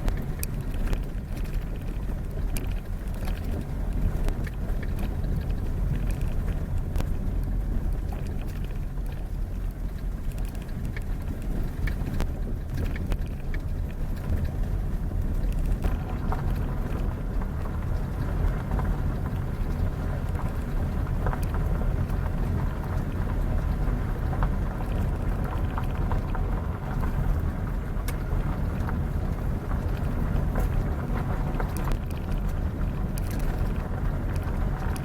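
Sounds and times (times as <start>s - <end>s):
road noise: 0.0s - 35.0s
vehicle rumble: 0.0s - 35.0s.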